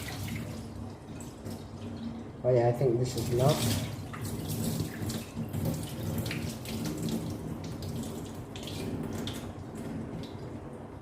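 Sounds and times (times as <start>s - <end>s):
water splashing in a pot: 0.0s - 2.2s, 3.1s - 10.4s.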